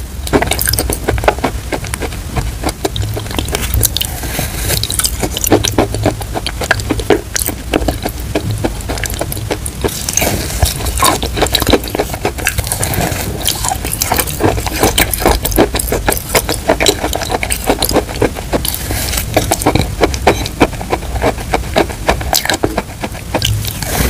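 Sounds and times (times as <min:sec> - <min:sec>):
crunchy chewing: 0:00.0 - 0:24.0
mouth clicks: 0:00.3 - 0:24.0.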